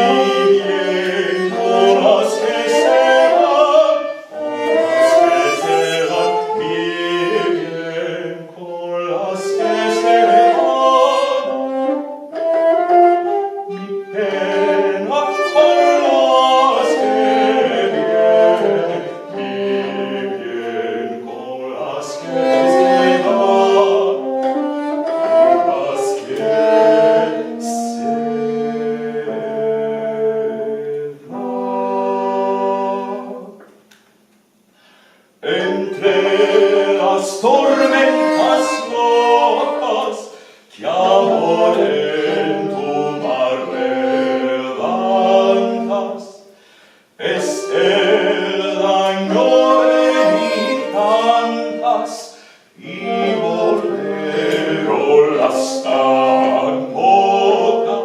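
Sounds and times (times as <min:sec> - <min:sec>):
early-music ensemble with voice: 0:00.0 - 0:58.0.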